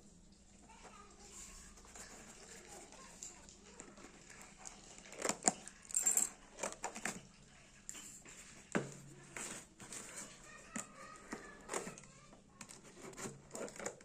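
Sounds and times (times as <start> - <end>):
packaging rustling and crinkling: 1.2 - 14.0.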